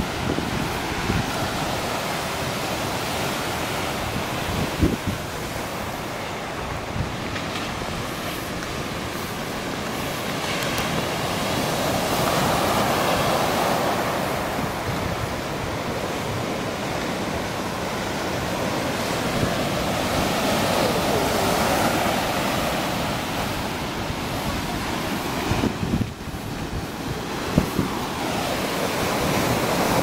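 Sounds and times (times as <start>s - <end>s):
sea waves breaking on beach: 0.0s - 30.0s.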